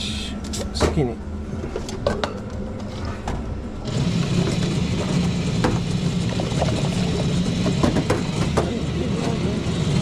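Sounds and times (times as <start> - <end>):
low motor hum: 1.2 - 10.0.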